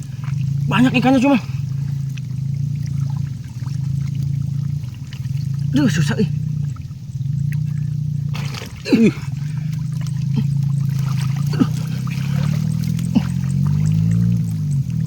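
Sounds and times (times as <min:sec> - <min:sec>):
steady low hum: 0:00.0 - 0:15.0
water trickling and sloshing: 0:00.0 - 0:15.0.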